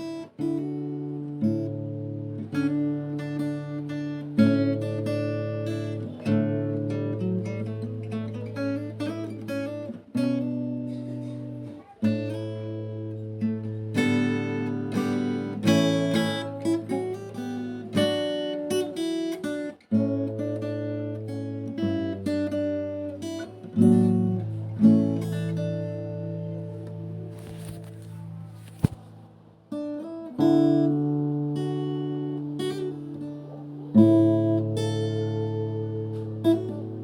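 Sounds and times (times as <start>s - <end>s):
acoustic guitar music: 0.0s - 37.0s.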